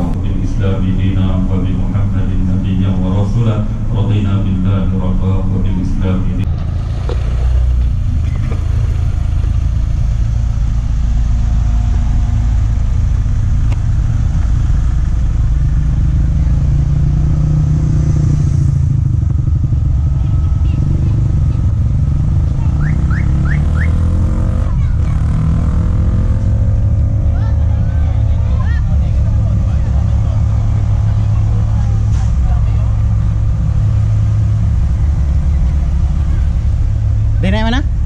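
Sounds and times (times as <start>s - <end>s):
car engine revving: 0.0s - 38.0s
car engines idling: 0.0s - 38.0s.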